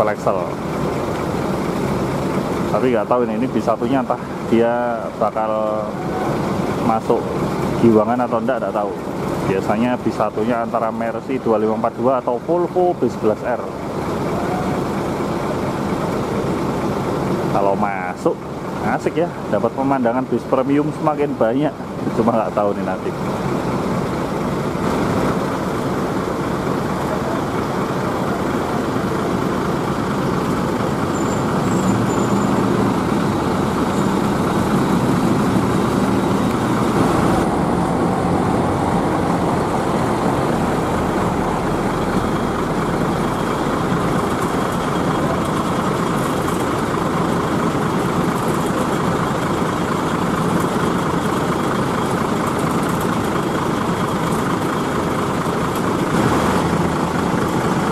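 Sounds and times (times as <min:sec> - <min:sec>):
bus engines running: 0:00.0 - 0:57.9.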